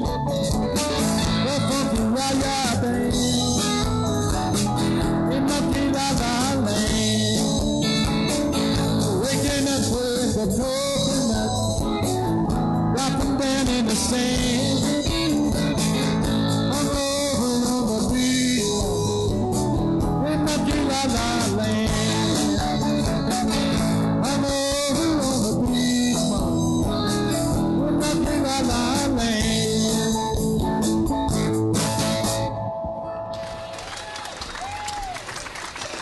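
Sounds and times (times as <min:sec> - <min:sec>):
blues-rock band playing: 0:00.0 - 0:33.5
electric guitars: 0:00.0 - 0:34.8.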